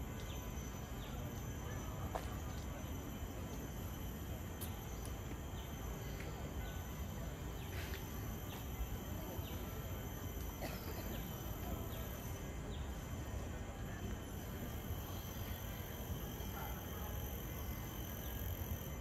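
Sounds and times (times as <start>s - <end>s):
high insect-like drone: 0.0s - 19.0s.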